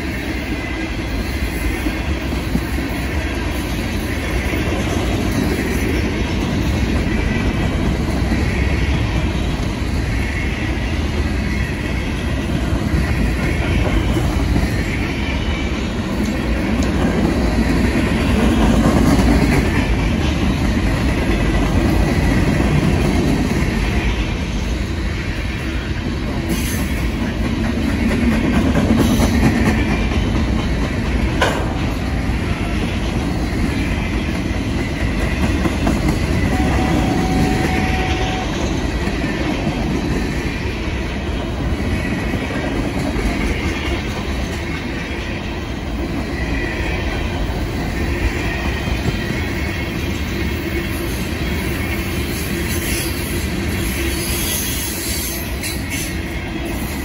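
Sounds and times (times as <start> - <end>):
clickety-clack over rail joints: 0.0 - 24.8, 25.4 - 57.0
train wheels rumbling on rail: 0.0 - 57.0.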